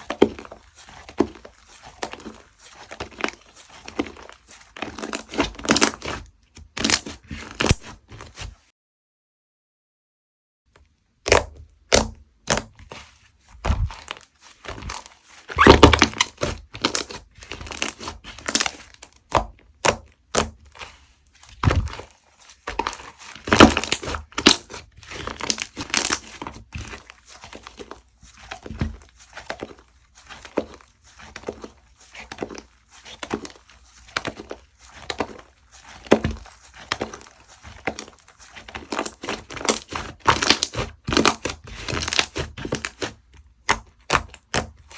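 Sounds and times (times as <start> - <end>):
slime crackling and popping: 0.0 - 8.0, 11.2 - 12.8, 13.6 - 20.9, 21.5 - 44.9.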